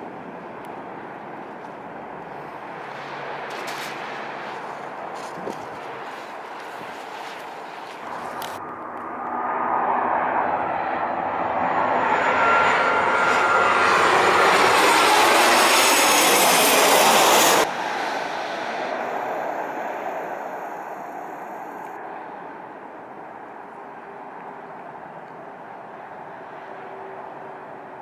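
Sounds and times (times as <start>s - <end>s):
jet engines rush and whine: 0.0s - 28.0s.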